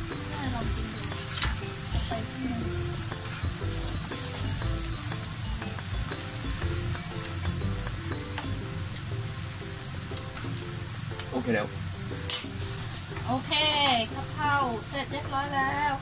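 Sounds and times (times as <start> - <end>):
meat sizzling in frying pan: 0.0 - 16.0.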